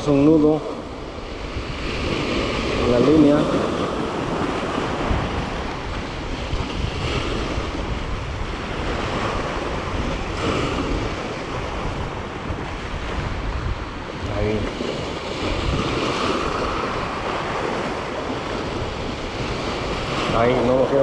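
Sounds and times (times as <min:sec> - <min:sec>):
surf washing over rocks: 0:00.0 - 0:21.0
wind buffeting microphone: 0:00.0 - 0:21.0.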